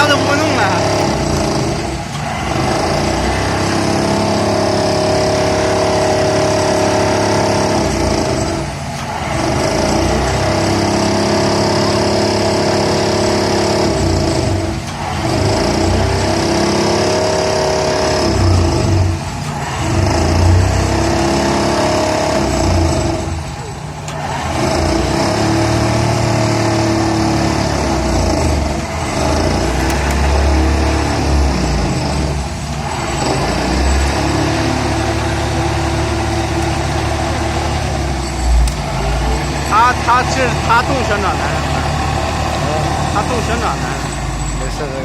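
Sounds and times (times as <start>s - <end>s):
vibratory pile driver drone: 0.0s - 45.0s.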